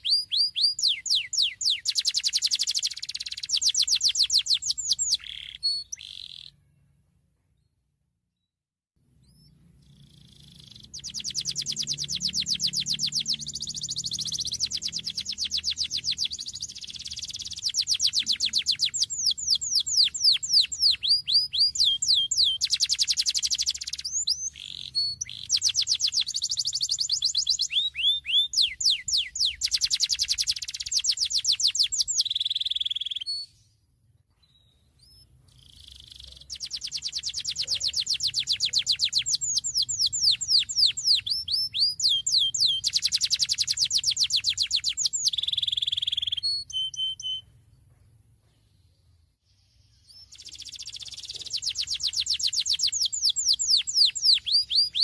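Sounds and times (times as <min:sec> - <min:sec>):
canary singing trills: 0:00.0 - 0:07.0, 0:09.1 - 0:33.7, 0:34.5 - 0:47.6, 0:49.7 - 0:55.0.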